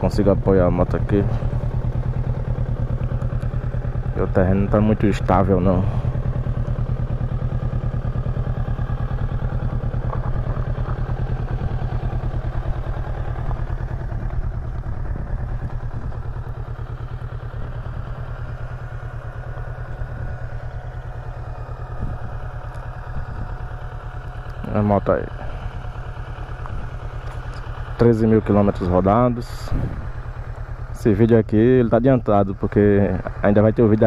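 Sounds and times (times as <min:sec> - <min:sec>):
motorcycle engine idling: 0:00.0 - 0:34.0.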